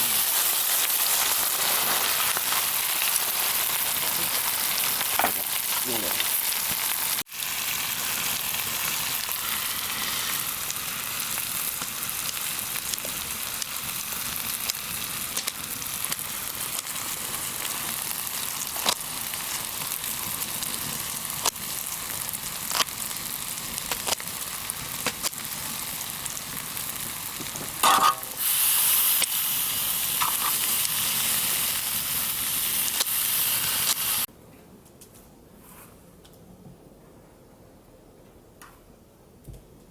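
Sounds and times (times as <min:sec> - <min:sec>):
meat sizzling on a griddle: 0:00.0 - 0:34.3.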